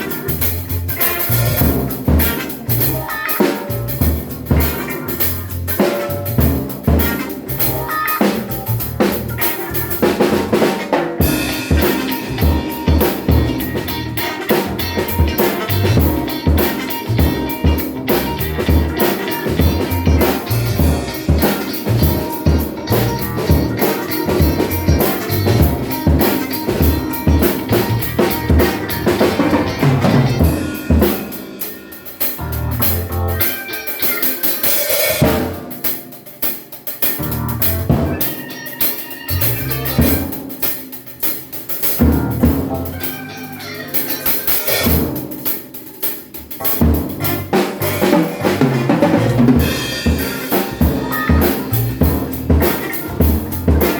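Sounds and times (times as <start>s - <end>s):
drum kit groove: 0.0s - 53.9s.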